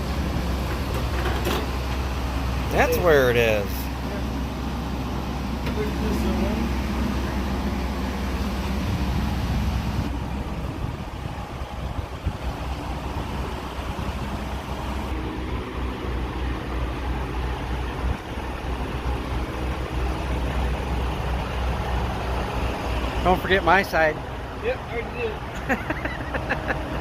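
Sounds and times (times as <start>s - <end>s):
truck diesel engine droning: 0.0s - 27.0s.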